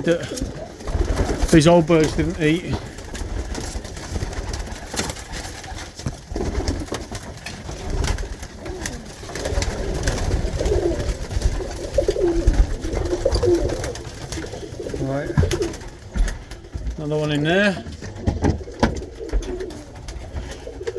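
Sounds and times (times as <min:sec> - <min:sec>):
pigeons cooing: 0:00.0 - 0:20.9.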